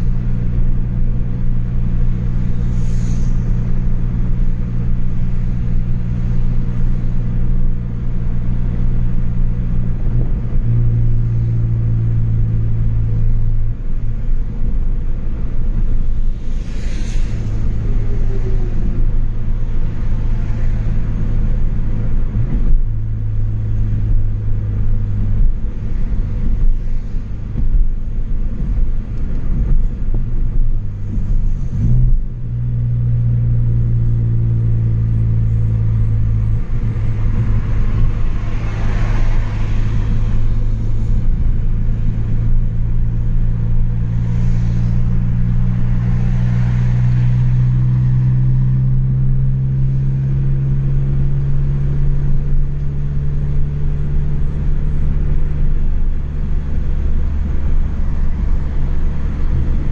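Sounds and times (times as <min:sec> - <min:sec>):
car exhaust drone: 0:00.0 - 0:59.9.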